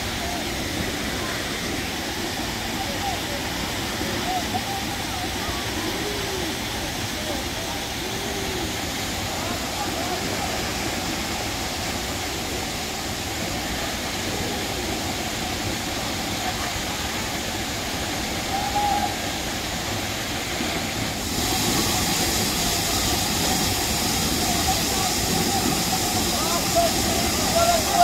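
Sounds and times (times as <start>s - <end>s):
waterfall rushing into pool: 0.0s - 28.0s.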